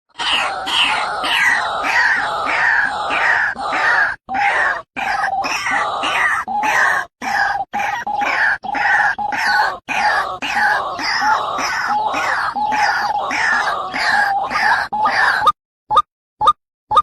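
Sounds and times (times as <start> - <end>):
waterhen harsh croaking calls: 0.1 - 15.6.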